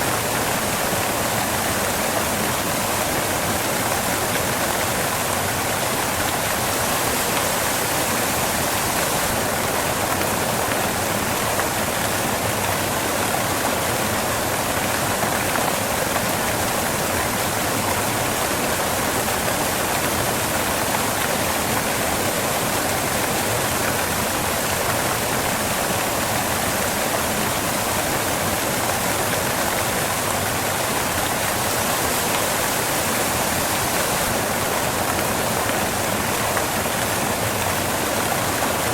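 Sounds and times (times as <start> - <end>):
waterfall crashing onto rocks: 0.0 - 38.9.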